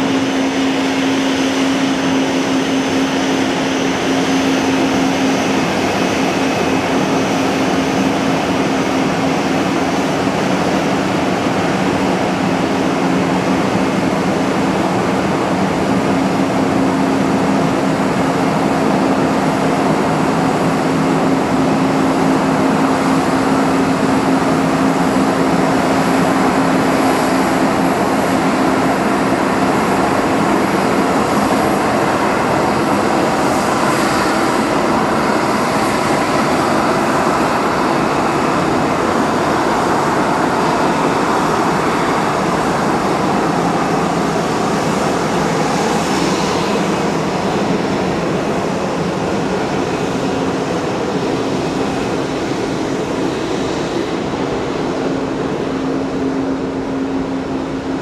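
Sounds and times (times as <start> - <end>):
jet engines rushing: 0.0 - 58.0.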